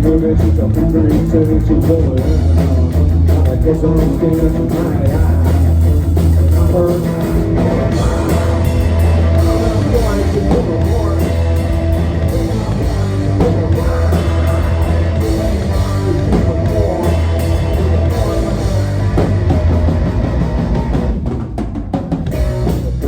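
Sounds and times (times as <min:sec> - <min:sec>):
electric guitar: 0:00.0 - 0:21.6, 0:22.2 - 0:23.0
bass guitar: 0:00.0 - 0:23.0
drum kit: 0:00.0 - 0:23.0.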